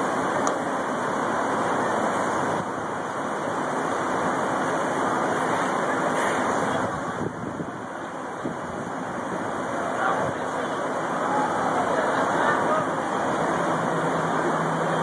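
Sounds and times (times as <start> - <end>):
turboprop engines roaring: 0.0 - 15.0.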